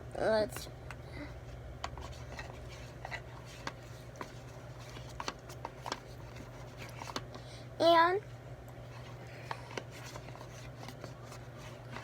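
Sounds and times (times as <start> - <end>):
steady low hum: 0.0 - 12.0
faint clicks and scrapes of handling: 0.9 - 7.5, 8.7 - 12.0.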